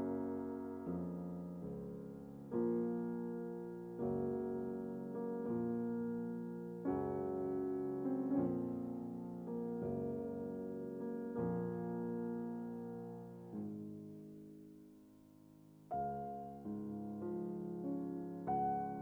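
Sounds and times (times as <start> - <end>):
slow gentle piano: 0.0 - 19.0.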